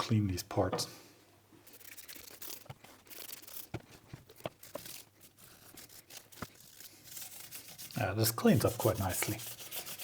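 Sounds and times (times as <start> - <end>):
rubbing and crinkling: 1.6 - 10.0.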